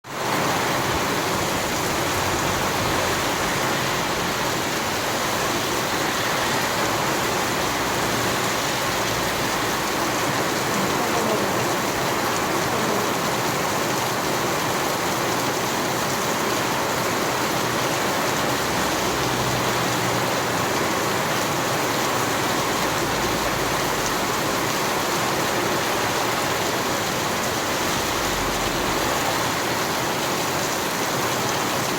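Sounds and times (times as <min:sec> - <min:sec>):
heavy rain pattering on road: 0:00.0 - 0:31.9.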